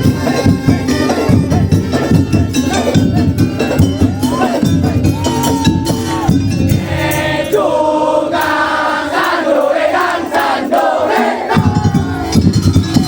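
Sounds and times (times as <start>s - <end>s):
drums and percussion: 0.0s - 13.0s.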